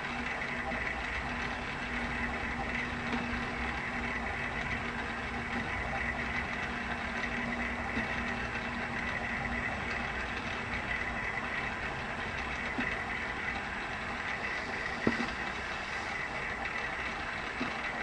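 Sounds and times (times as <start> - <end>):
motorized turntable humming: 0.0 - 18.0.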